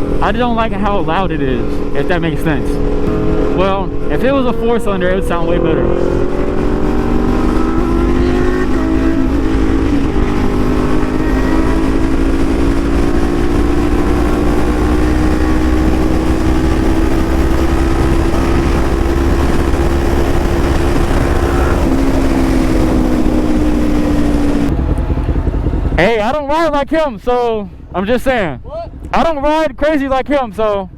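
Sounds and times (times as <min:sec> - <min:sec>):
small motorcycle engine cruising: 0:00.0 - 0:26.7
low wind rumble: 0:00.0 - 0:30.9.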